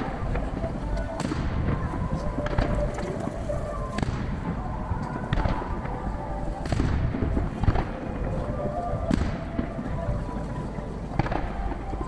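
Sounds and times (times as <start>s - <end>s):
continuous low rumble: 0.0s - 12.0s
distant fireworks bursting: 0.0s - 12.0s.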